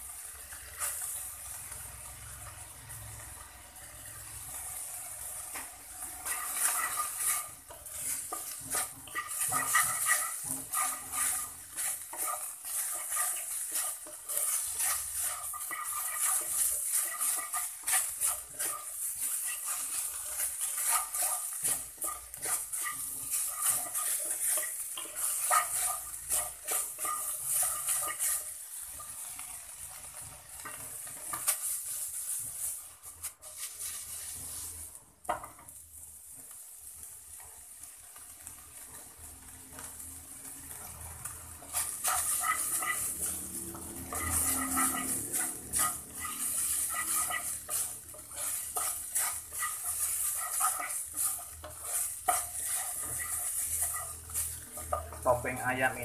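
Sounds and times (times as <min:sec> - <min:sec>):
meat sizzling in frying pan: 0:00.0 - 0:56.0
wooden spatula scraping pan: 0:04.1 - 0:35.8, 0:38.8 - 0:56.0.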